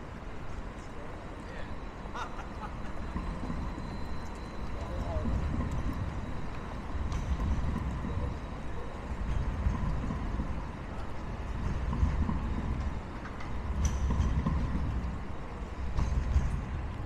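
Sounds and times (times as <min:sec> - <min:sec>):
tram rumbling past: 0:00.0 - 0:17.0.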